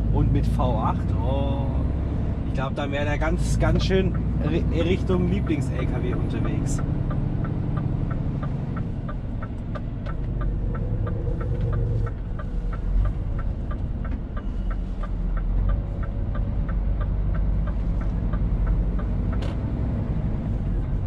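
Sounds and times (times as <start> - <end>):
diesel truck engine rumble: 0.0 - 21.0
steady ticking: 0.1 - 21.0.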